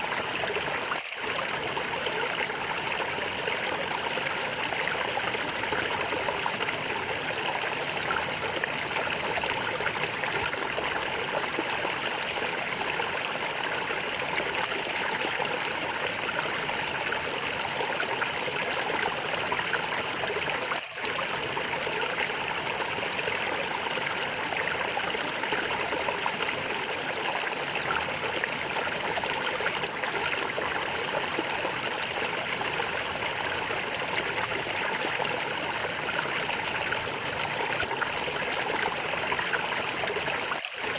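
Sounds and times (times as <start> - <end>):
stream of water gurgling: 0.0 - 40.9.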